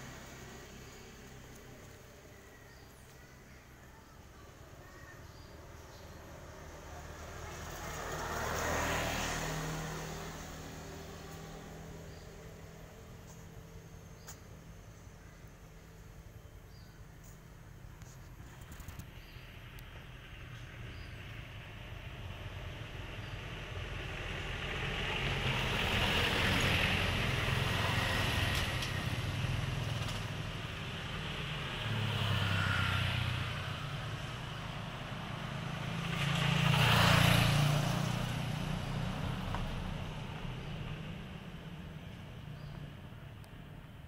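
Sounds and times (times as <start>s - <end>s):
vehicles passing: 0.0s - 44.0s.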